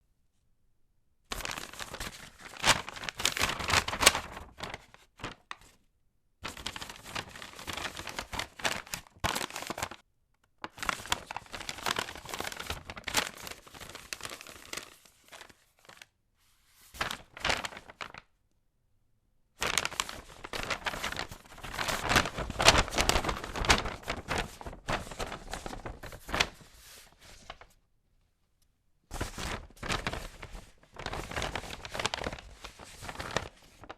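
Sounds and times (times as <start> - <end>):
paper bag crumpling: 1.4 - 5.6, 6.4 - 10.0, 10.6 - 16.0, 17.0 - 18.2, 19.6 - 27.7, 29.2 - 33.9.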